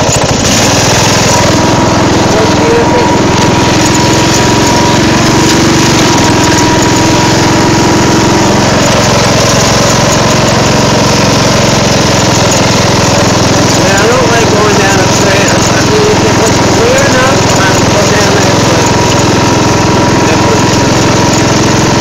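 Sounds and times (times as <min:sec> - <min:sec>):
riding lawn mower engine running: 0:00.0 - 0:22.0.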